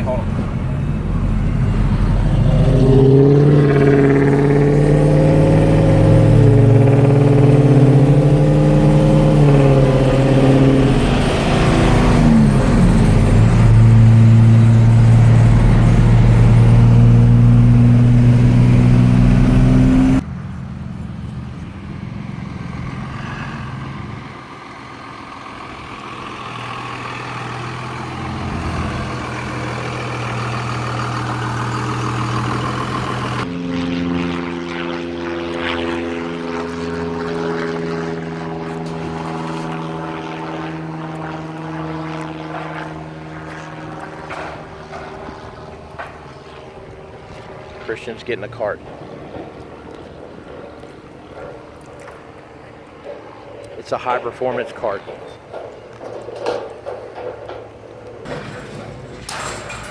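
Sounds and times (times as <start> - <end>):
car engine accelerating: 0.0 - 54.2
low hum of traffic: 0.0 - 59.9
road noise: 0.0 - 59.9.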